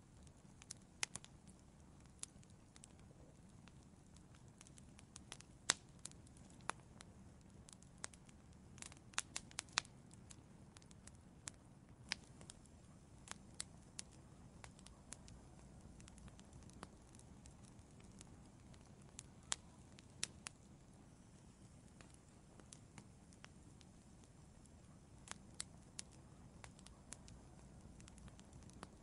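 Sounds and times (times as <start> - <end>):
fire popping and snapping: 0.0 - 29.0
wood fire crackling: 0.0 - 29.0.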